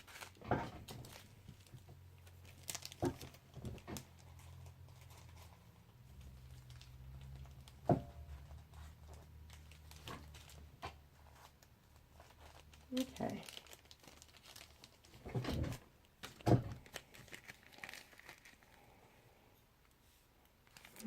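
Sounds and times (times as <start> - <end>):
plastic packets rustling: 0.0 - 19.1, 20.5 - 21.0.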